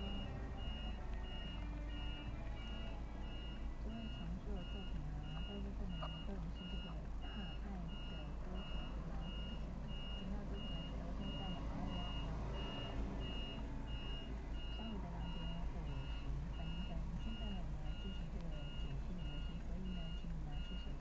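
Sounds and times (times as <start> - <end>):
backup alarm beeping: 0.0 - 21.0
engine running low rumble: 0.0 - 21.0.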